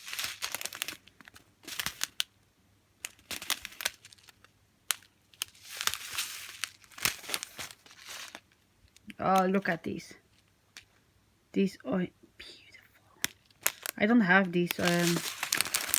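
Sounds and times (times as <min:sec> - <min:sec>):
plastic packets crinkling: 0:00.0 - 0:02.3, 0:03.0 - 0:11.0, 0:13.1 - 0:15.9.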